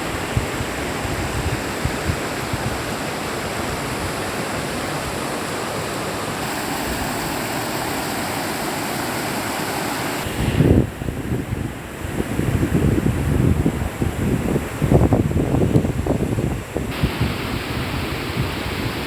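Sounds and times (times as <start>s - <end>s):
wind buffeting microphone: 0.0s - 5.5s, 6.3s - 19.0s
river water rushing: 0.0s - 19.0s.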